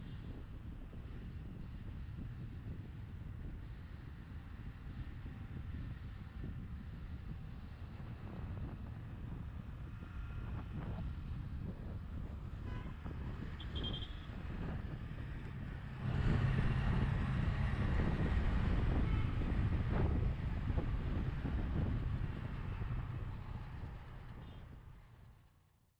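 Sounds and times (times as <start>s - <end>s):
wind rushing over camera: 0.0s - 24.9s
road and engine rumble: 0.0s - 25.8s.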